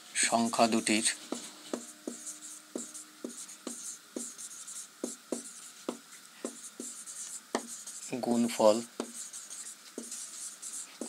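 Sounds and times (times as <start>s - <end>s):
marker pen writing on whiteboard: 0.4s - 11.0s.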